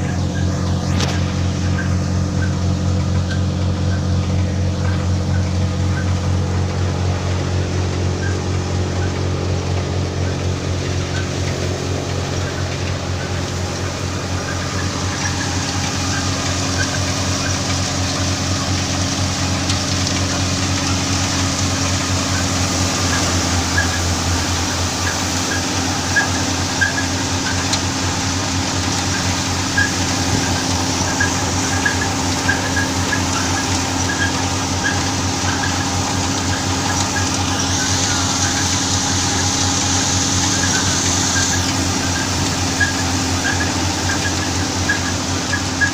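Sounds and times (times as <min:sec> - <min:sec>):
tractor engine running: 0:00.0 - 0:45.9
thresher ticks and rattles: 0:09.0 - 0:45.9.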